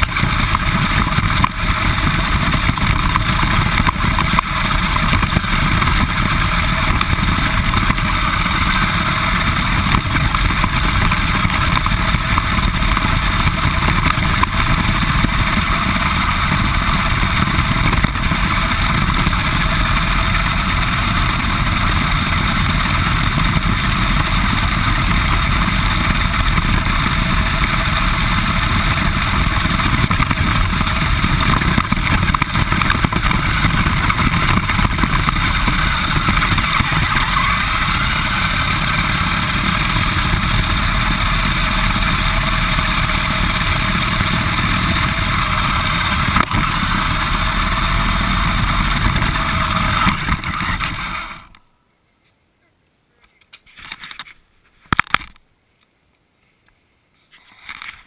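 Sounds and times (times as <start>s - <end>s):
rc car motor running: 0.0s - 51.6s.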